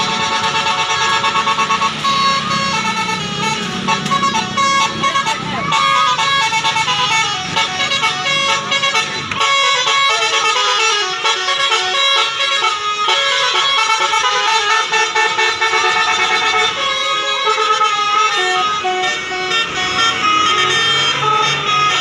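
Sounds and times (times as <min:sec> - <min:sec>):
multi-tone horn playing a melody: 0:00.0 - 0:22.0.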